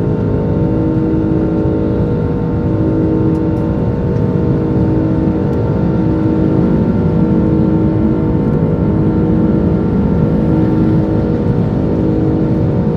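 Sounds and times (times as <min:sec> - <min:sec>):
jet engine cabin drone: 0:00.0 - 0:12.9.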